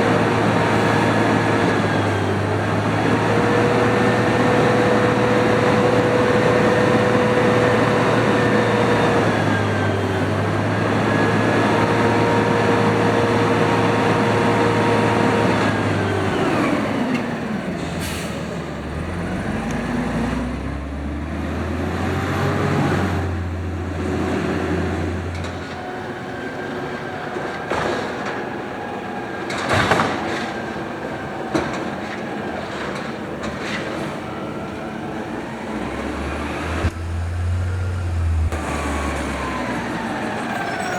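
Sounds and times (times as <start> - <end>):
garbage truck engine whining: 0.0 - 40.9.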